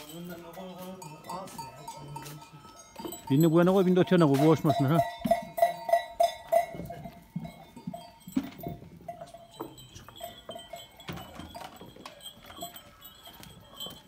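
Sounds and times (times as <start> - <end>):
livestock bells clanking: 0.0 - 14.0.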